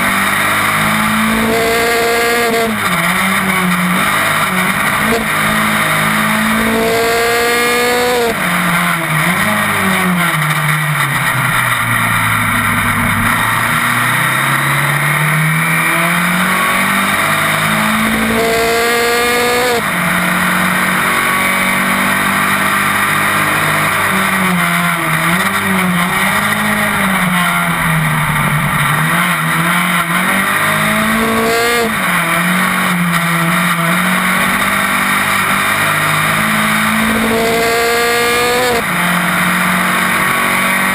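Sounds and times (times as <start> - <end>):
racing car engine revving: 0.0 - 40.9
wind and road noise: 0.0 - 40.9.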